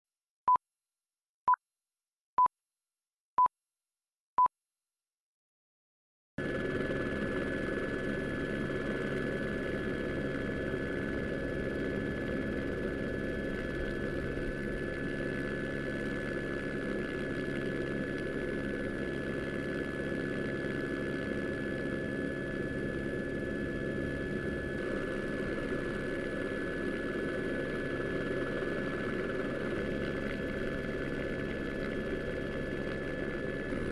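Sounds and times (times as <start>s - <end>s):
steady engine drone: 6.4s - 33.9s.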